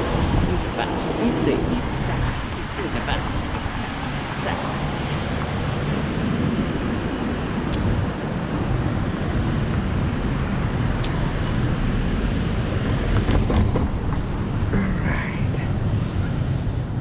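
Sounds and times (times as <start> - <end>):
road noise: 0.0 - 17.0
wind rushing over microphone: 0.0 - 17.0.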